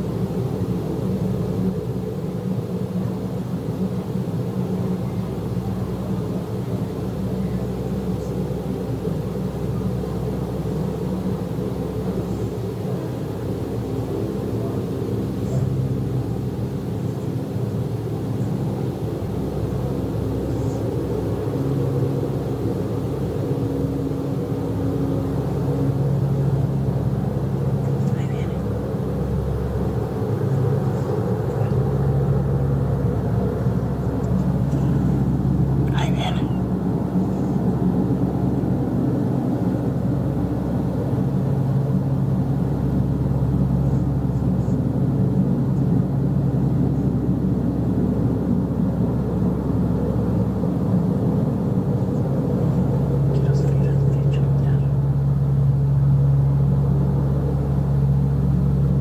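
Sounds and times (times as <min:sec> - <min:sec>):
low drone in the sky: 0:00.0 - 0:59.0.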